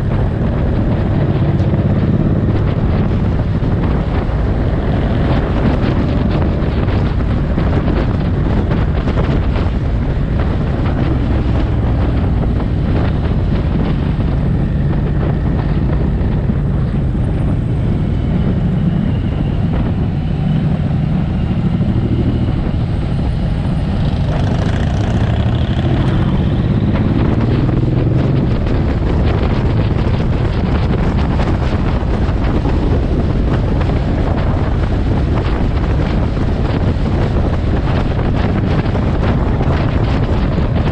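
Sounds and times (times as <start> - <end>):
motorcycle engine revving: 0.0 - 18.3, 20.5 - 40.9
wind rush on microphone: 0.0 - 40.9.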